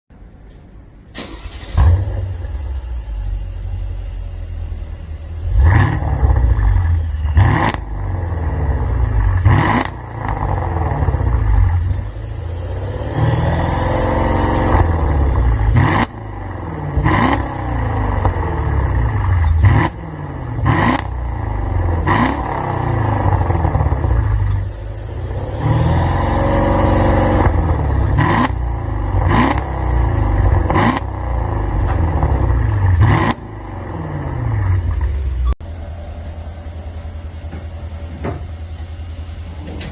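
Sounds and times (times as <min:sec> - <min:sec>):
car engine idling and revving: 0:00.1 - 0:39.9
car engine starting: 0:00.5 - 0:39.9.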